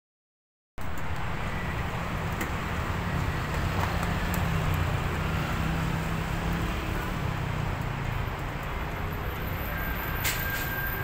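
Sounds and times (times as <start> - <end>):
traffic engine rumble: 0.8 - 11.0.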